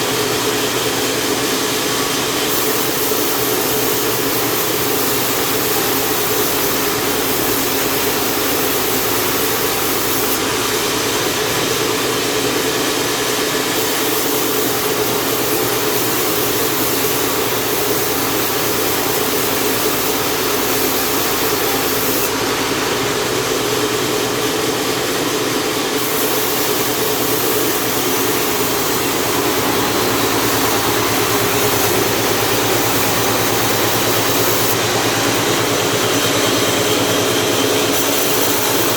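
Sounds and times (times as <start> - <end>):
chainsaw cutting through log: 1.9 - 12.6, 13.2 - 38.9.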